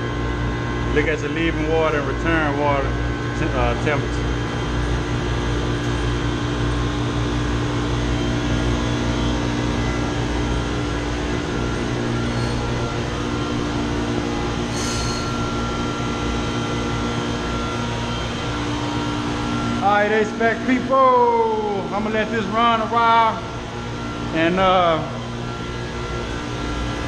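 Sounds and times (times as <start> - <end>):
chiller and pump humming: 0.0 - 27.0.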